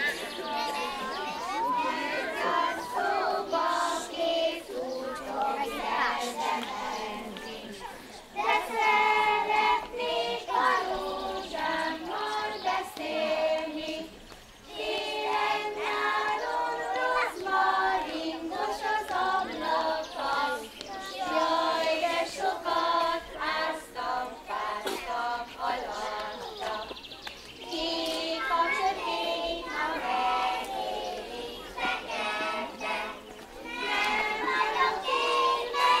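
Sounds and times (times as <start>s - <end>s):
children singing in unison: 0.0s - 27.0s, 27.6s - 36.0s.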